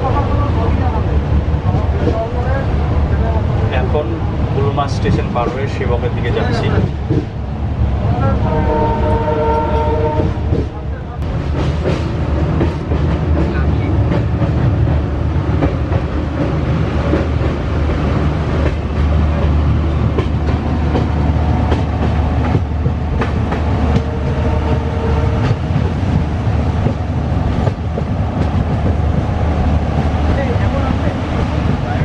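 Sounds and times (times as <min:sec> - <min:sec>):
train rumbling on tracks: 0:00.0 - 0:32.0.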